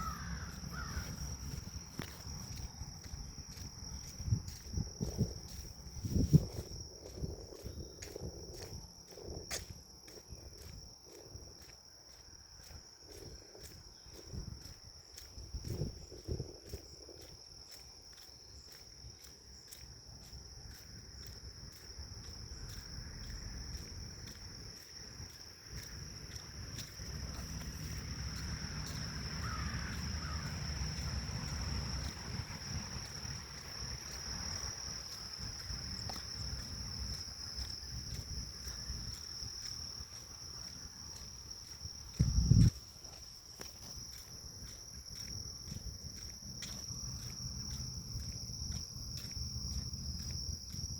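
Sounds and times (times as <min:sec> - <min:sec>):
insects trilling: 0:00.0 - 0:50.9
wind rumble: 0:00.0 - 0:50.9.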